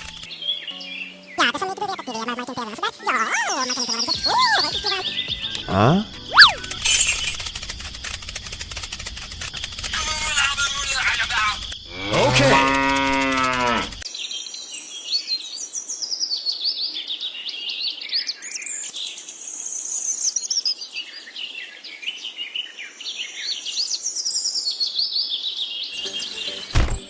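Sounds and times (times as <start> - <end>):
songbirds chirping and twittering: 0.0 - 7.6, 9.5 - 27.0.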